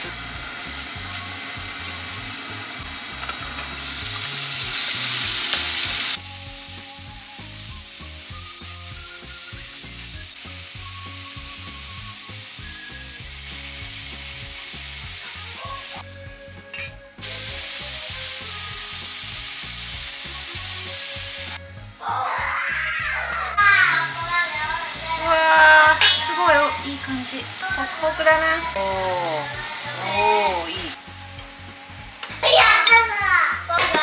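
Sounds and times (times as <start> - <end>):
soft background music: 0.0 - 34.0
vegetables sizzling in a pot: 0.0 - 34.0.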